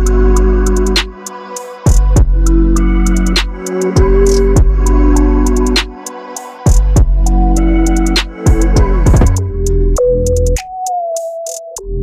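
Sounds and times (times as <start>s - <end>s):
electronic hip-hop beat: 0.0s - 12.0s.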